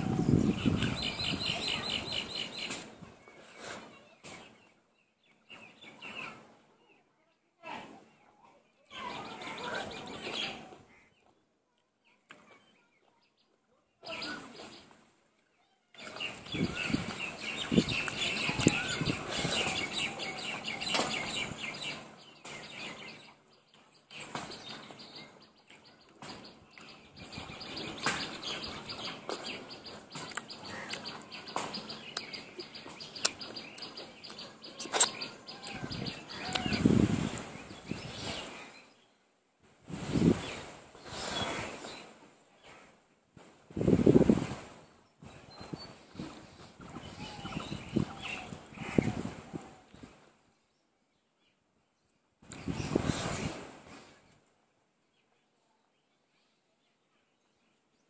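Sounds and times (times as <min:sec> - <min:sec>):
birds chirping: 0:00.0 - 0:07.0, 0:08.6 - 0:39.4, 0:43.8 - 0:54.4.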